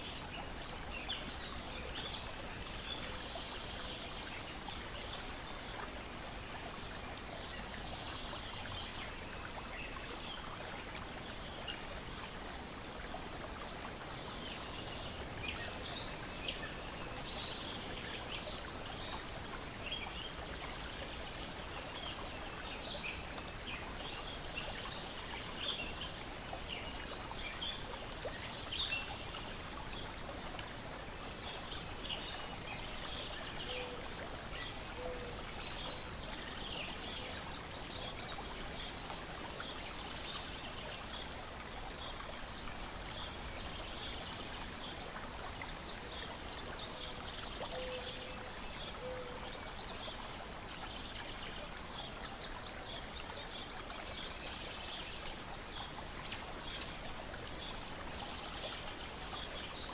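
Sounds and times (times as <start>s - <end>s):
lake water lapping and trickling: 0.0s - 59.9s.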